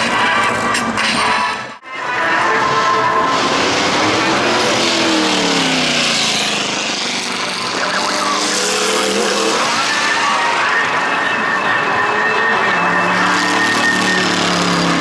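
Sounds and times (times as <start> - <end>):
racing car engine: 0.0 - 15.0.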